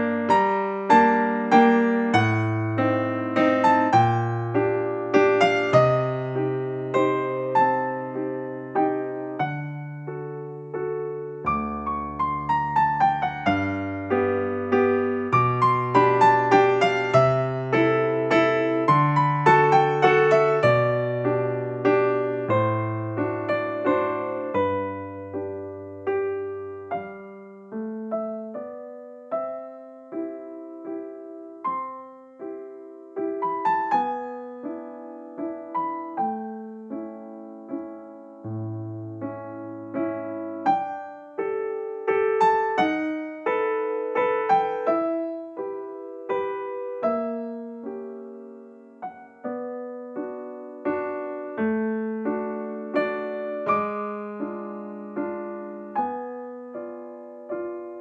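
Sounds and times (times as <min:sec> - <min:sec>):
piano music: 0:00.0 - 0:58.0.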